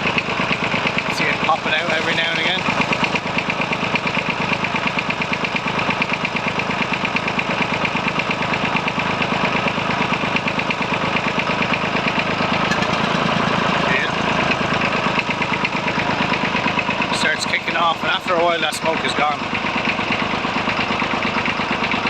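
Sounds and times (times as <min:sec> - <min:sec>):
diesel engine idling and misfiring: 0:00.0 - 0:22.0.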